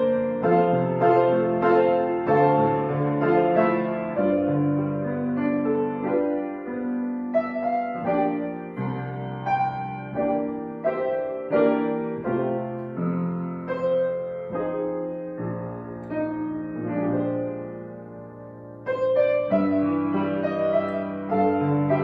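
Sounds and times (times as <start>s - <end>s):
solo piano playing slowly: 0.0s - 22.0s.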